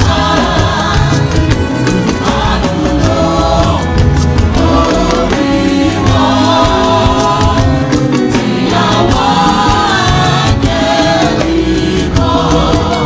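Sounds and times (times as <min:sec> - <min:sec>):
choir singing a hymn: 0:00.0 - 0:13.0
percussion and bass accompaniment: 0:00.0 - 0:13.0.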